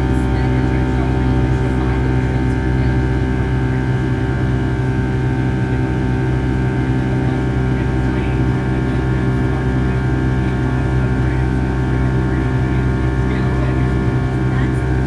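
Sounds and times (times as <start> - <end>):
jet cabin drone: 0.0 - 15.0.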